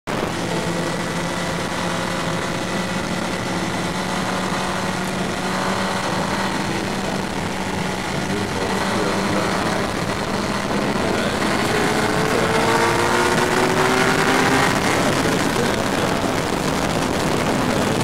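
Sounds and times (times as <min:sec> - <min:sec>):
motorcycle engine running: 0:00.1 - 0:18.0
wind rushing over microphone: 0:00.1 - 0:18.0.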